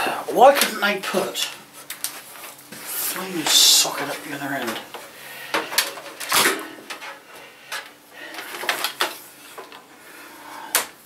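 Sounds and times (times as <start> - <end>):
rustling of cables: 0.0 - 11.0.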